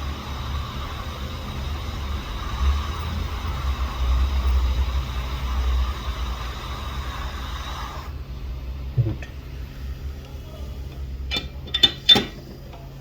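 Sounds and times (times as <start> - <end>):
hot air station blowing: 0.0 - 13.0.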